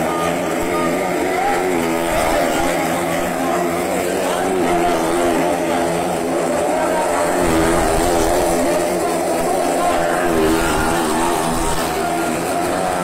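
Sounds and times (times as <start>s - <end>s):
motorcycle engine running hard: 0.0s - 13.0s.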